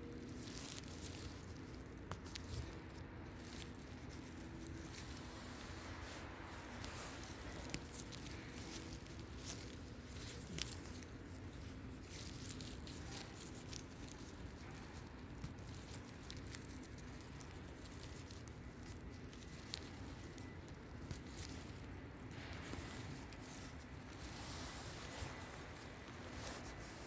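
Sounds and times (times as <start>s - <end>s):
leaf litter crackling and rustling: 0.0s - 27.0s.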